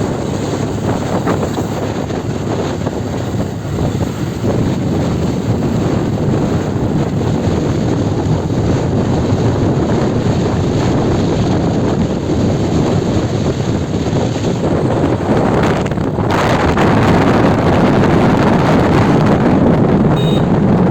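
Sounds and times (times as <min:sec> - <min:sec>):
motorcycle engine: 0:00.0 - 0:20.9
wind rushing over microphone: 0:00.0 - 0:20.9.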